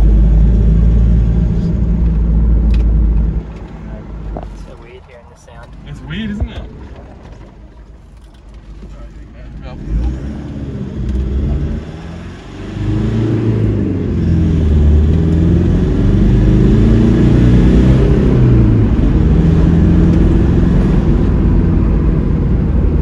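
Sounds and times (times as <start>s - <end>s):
diesel engine accelerating: 0.0s - 23.0s.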